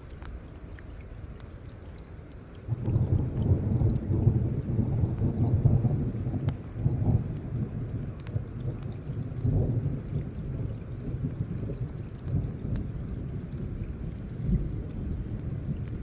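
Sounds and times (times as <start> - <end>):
light rain: 0.0 - 16.0
rolling thunder: 2.7 - 16.0.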